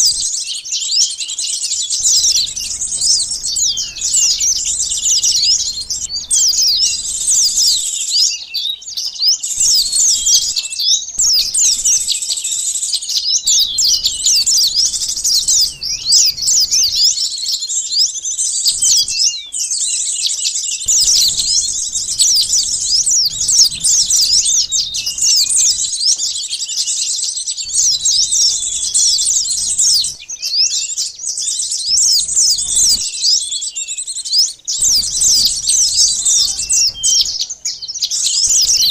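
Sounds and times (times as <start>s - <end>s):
sunbirds chirping: 0.0s - 38.9s.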